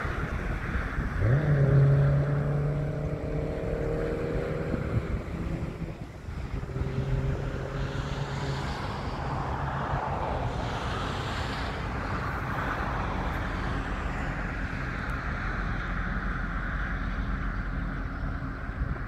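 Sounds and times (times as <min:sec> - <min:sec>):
rushing water and air noise: 0:00.0 - 0:19.0
ship diesel engine drone: 0:00.0 - 0:19.0.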